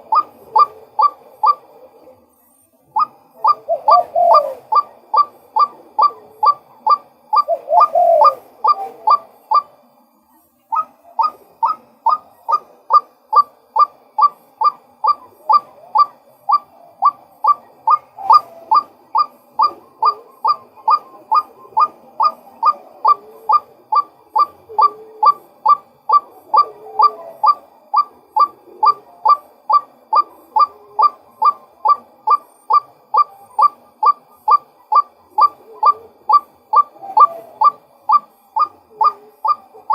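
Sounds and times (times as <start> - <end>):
waterhen calling: 3.0 - 9.7, 10.7 - 39.9.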